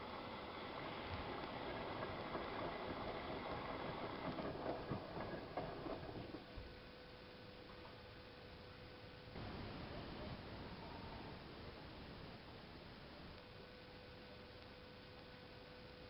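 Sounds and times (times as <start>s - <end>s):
washing machine hum: 0.0s - 14.4s.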